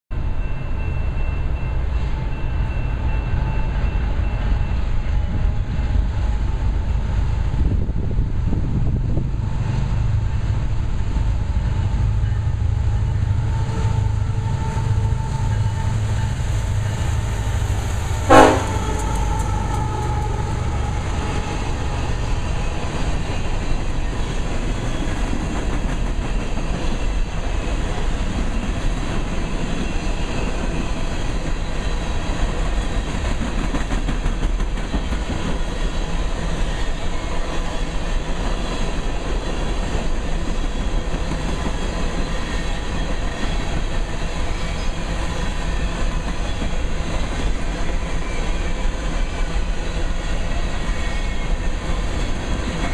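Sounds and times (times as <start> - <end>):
diesel locomotive engine rumble: 0.1 - 52.9
train wheels clickety-clack: 0.7 - 52.9.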